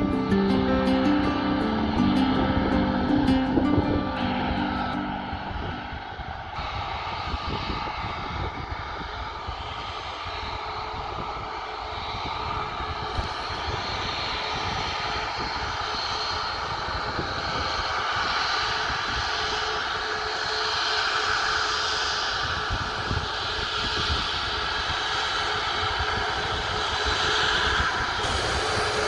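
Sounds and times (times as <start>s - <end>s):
aircraft engines running: 0.0s - 29.0s.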